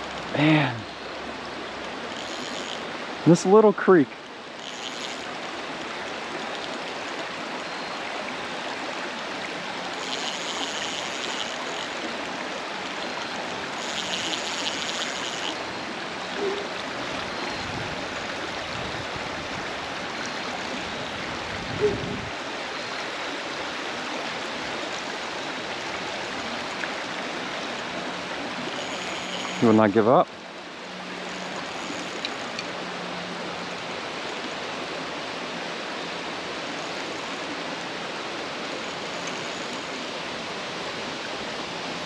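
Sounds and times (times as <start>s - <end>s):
creek water running over rocks: 0.0s - 42.0s.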